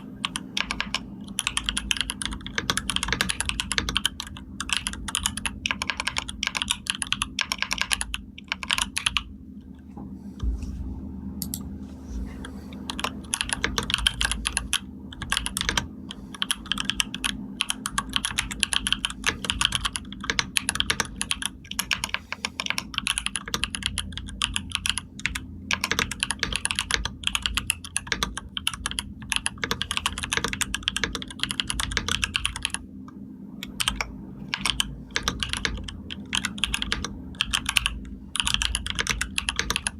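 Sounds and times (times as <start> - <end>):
typing on computer keyboard: 0.0 - 9.3, 12.8 - 32.8, 33.6 - 39.9
faint low hum: 0.0 - 39.9.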